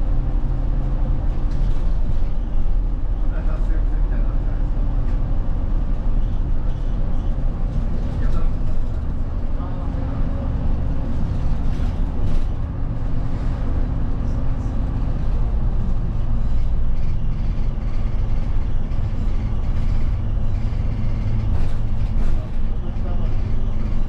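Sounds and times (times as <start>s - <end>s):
bus engine hum: 0.0s - 24.0s
road rumble: 0.0s - 24.0s.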